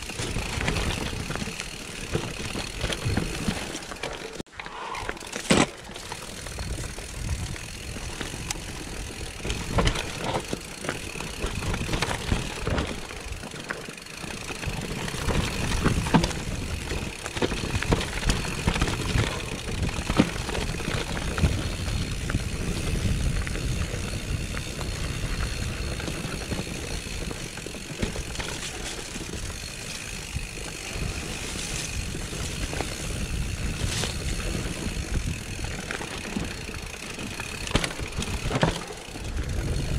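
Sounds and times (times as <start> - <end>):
bike rattling: 0.0 - 39.9
bike tyres rumbling over stones: 0.0 - 39.9.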